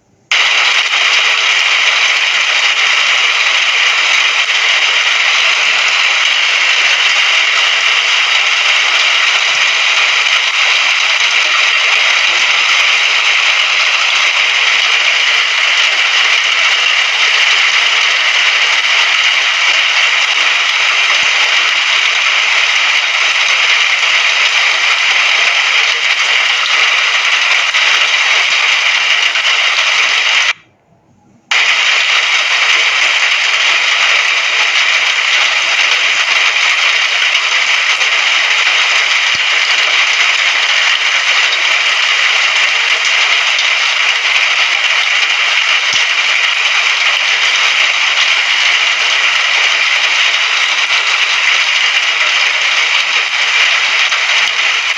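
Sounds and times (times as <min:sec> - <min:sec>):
heavy rain hissing: 0:00.3 - 0:30.6, 0:31.5 - 0:54.9.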